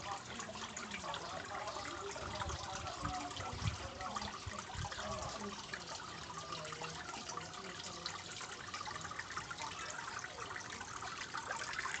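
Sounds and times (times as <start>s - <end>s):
fountain water trickling and splashing: 0.0s - 12.0s.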